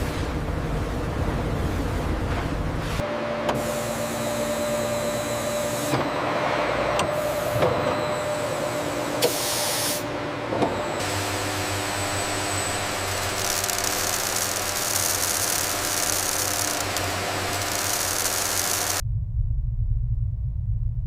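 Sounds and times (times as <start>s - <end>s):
machinery humming: 0.0s - 19.2s.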